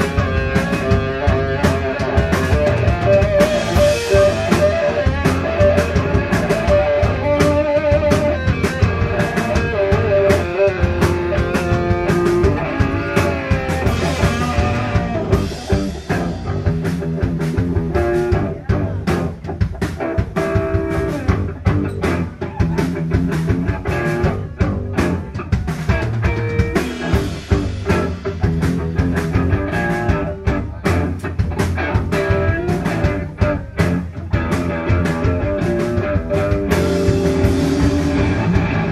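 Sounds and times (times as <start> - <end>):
drum kit beat: 0.0 - 38.9
electric guitar: 0.0 - 38.9
rock band playing live: 0.0 - 38.9.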